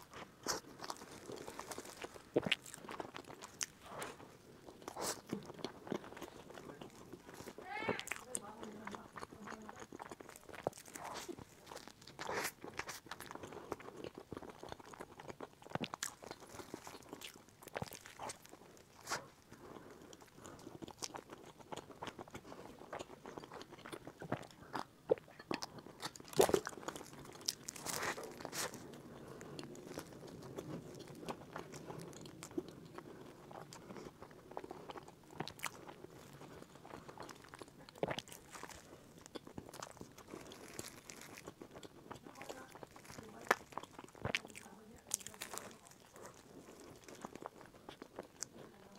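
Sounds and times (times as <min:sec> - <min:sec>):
crunching and chewing pastry: 0:00.0 - 0:48.9.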